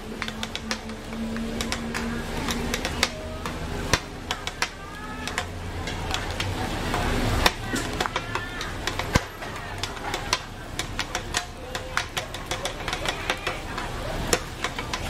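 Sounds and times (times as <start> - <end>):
faint background voices: 0.0 - 15.0
metal utensils clinking on a pan: 0.0 - 15.0.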